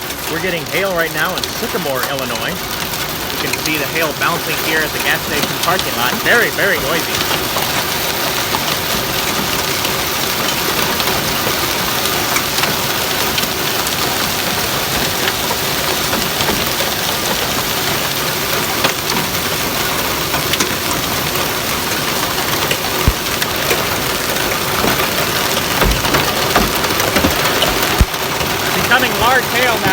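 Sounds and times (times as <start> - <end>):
hail clattering on pavement: 0.0 - 29.9
large hailstone hits: 2.6 - 29.9.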